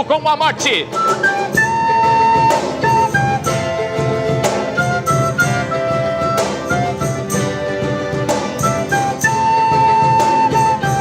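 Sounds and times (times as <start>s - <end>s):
held melody line: 0.0s - 11.0s
strummed guitar: 0.3s - 11.0s.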